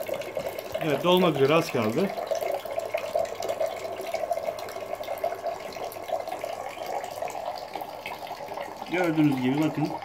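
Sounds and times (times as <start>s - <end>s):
water pouring into glass jug: 0.0s - 10.0s.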